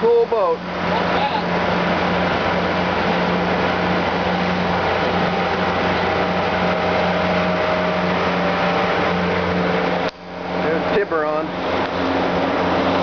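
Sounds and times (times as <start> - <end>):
boat engine humming: 0.0 - 13.0
rushing noise: 0.6 - 13.0.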